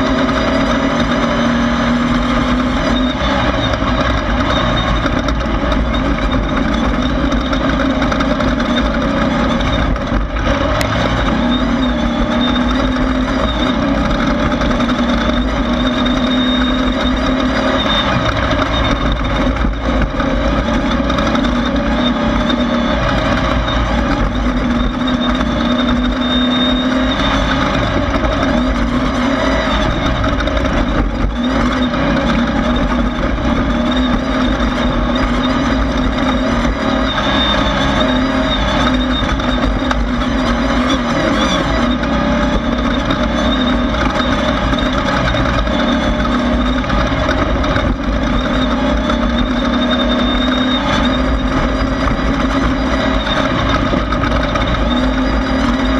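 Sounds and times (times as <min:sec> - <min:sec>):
race car engine running hard: 0:00.0 - 0:55.9.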